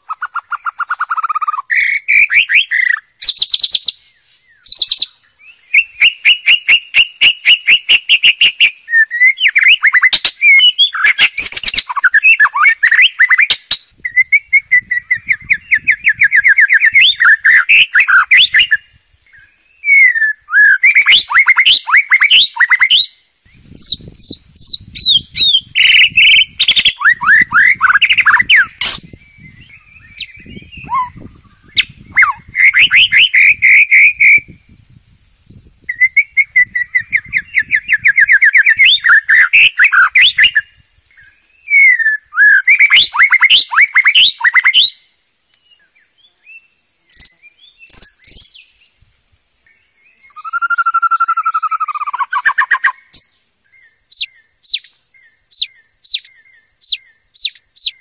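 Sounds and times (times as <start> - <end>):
bird singing whistled trills: 0.0 - 49.0, 49.6 - 58.0.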